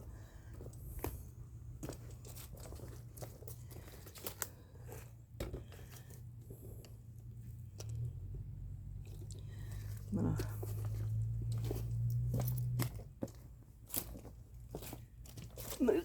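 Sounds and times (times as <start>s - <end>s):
rustling and crinkling of plant foliage: 0.0s - 16.0s.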